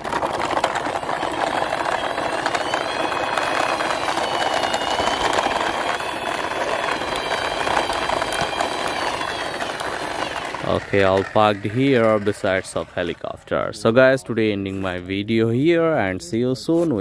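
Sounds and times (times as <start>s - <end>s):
toy truck wheels rolling on concrete: 0.0s - 17.0s.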